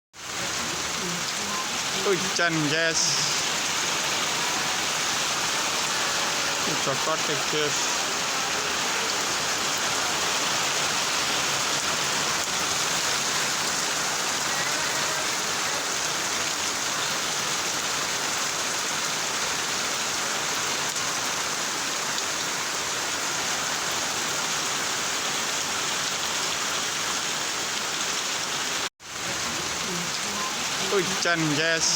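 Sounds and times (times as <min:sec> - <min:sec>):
rain falling steadily: 0:00.2 - 0:31.9.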